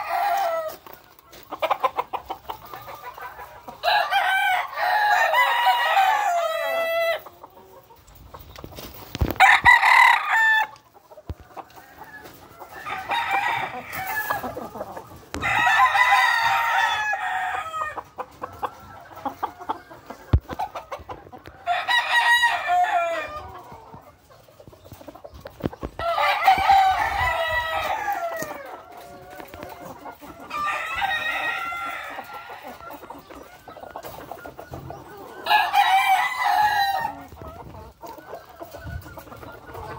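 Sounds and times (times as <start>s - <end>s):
roosters crowing: 0.0s - 7.4s, 9.2s - 20.8s, 21.4s - 24.0s, 25.8s - 39.9s.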